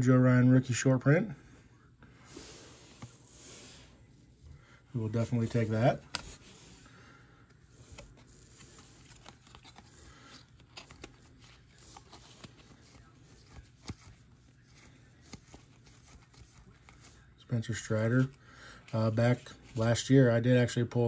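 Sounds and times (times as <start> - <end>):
trading cards sliding and flipping: 2.2 - 4.1, 5.1 - 20.2.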